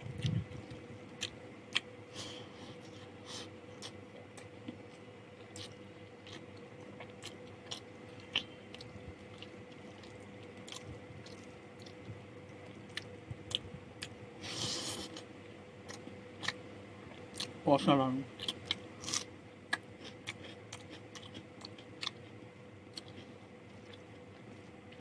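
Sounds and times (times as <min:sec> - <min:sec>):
person chewing food: 0:00.0 - 0:17.6, 0:18.4 - 0:25.0
faint steady hum: 0:00.0 - 0:25.0.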